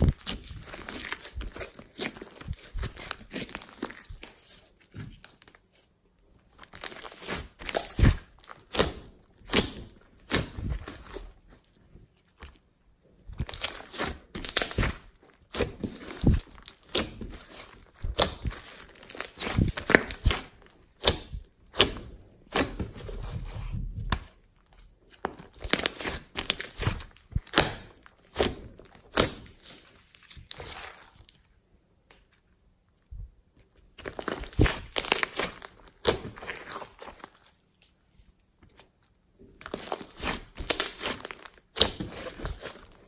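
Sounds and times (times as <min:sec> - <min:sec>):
slime crackling and squishing: 0:00.0 - 0:31.6, 0:33.6 - 0:43.0.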